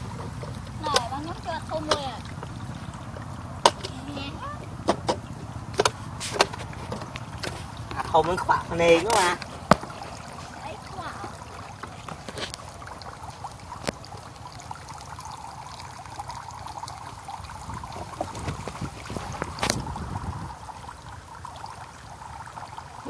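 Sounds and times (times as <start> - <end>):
water pouring into bucket: 0.0 - 23.0.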